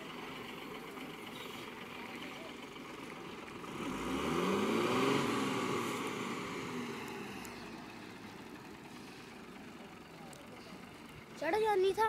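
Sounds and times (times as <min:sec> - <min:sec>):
truck diesel engine revving: 0:00.0 - 0:12.0.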